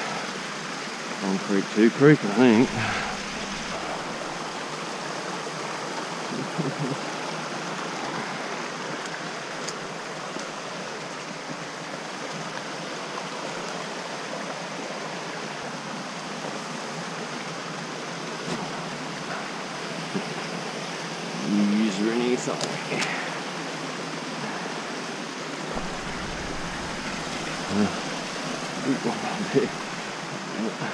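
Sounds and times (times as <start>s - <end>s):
creek water rushing over rocks: 0.0s - 30.9s.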